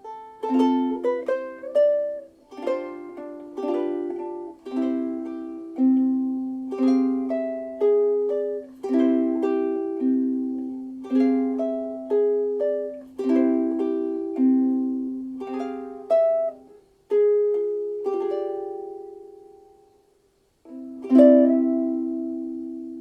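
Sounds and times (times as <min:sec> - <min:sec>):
ukulele plucked notes and chords: 0:00.0 - 0:19.9, 0:20.6 - 0:23.0.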